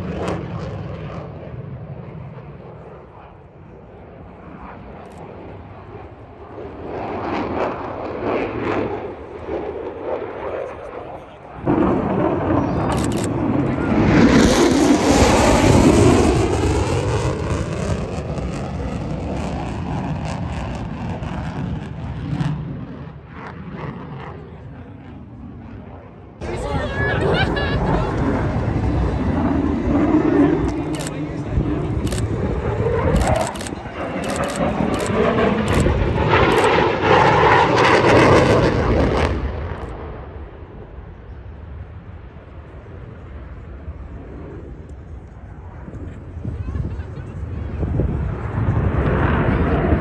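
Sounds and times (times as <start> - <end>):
jet passing at high speed: 0.0 - 50.0.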